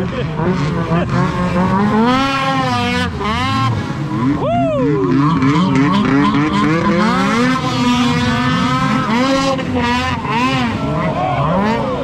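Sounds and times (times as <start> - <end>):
snowmobile engines revving: 0.0 - 12.0.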